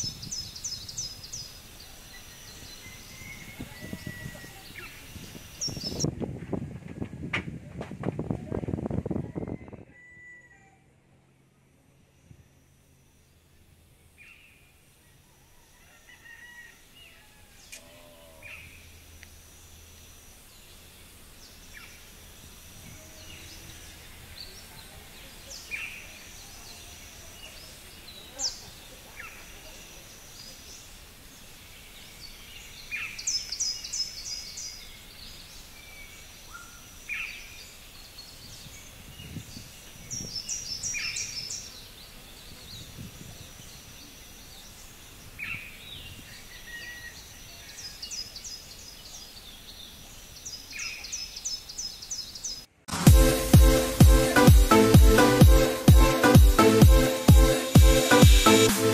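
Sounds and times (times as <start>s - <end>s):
birds chirping: 0.0s - 6.1s, 16.4s - 58.9s.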